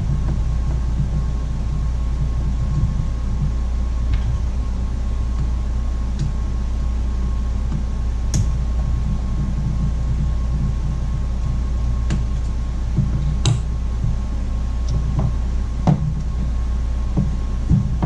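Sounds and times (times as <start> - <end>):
faint high whine: 0.0 - 18.0
steady low hum: 0.0 - 18.0.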